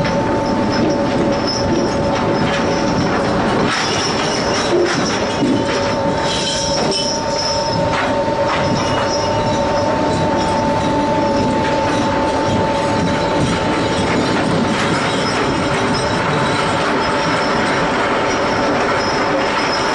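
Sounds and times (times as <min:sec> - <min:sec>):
constant whining tones: 0:00.0 - 0:19.9
deck machinery din: 0:00.0 - 0:19.9.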